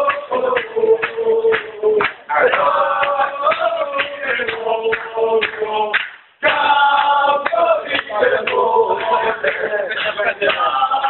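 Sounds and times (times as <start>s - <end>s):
crowd singing a chant: 0.0s - 11.0s
sharp drum beats: 0.0s - 11.0s.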